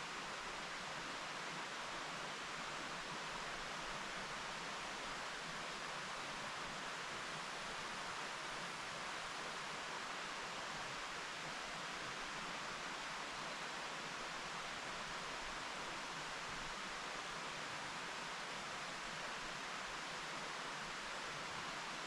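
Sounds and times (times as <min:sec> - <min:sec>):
mountain stream flowing: 0:00.0 - 0:22.0.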